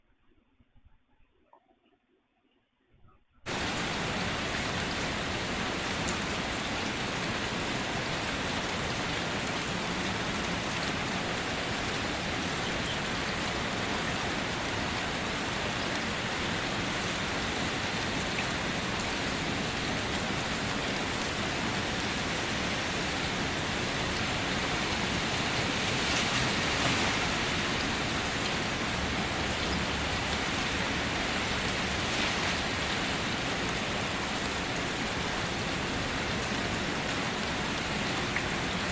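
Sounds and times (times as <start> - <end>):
rain falling on surfaces: 3.5 - 38.9.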